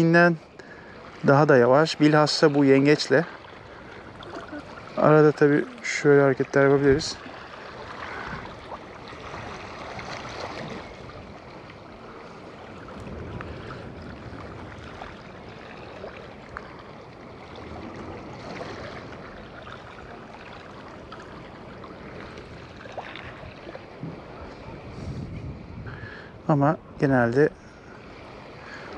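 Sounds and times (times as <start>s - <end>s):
small sea waves washing in: 0.0s - 28.9s.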